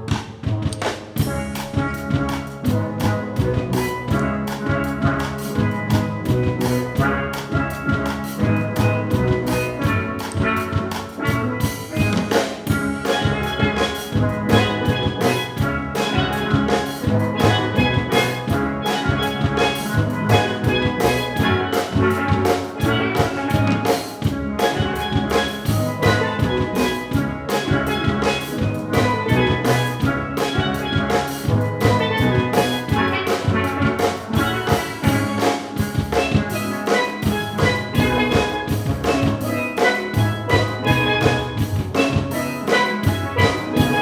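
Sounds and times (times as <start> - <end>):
steady drum beat: 0.0 - 44.0
steel drum band playing pop song: 0.0 - 44.0.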